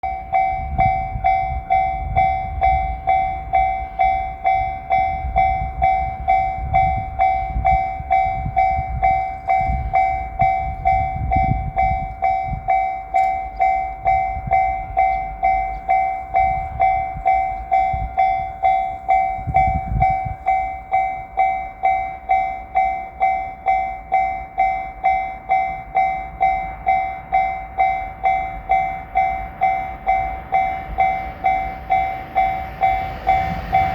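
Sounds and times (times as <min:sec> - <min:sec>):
level-crossing warning bell ringing: 0:00.0 - 0:33.9
train rumble and wheel clatter: 0:00.0 - 0:33.9.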